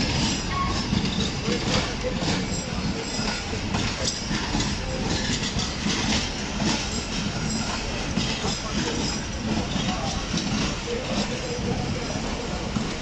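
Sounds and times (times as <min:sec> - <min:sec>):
clatter over rail joints: 0:00.0 - 0:13.0
train wheels rumbling on rails: 0:00.0 - 0:13.0.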